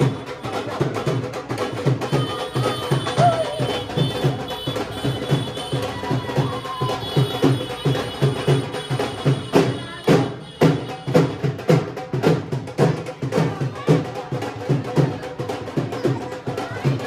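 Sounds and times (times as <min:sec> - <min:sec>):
dhol drumming: 0:00.0 - 0:17.0.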